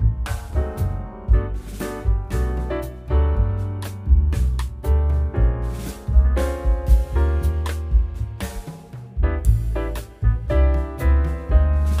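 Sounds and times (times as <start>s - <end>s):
steady bass beat: 0.0s - 12.0s.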